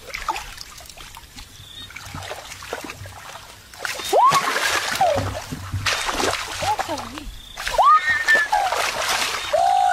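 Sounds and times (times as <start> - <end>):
hands squelching in wet mud: 2.0 - 9.9.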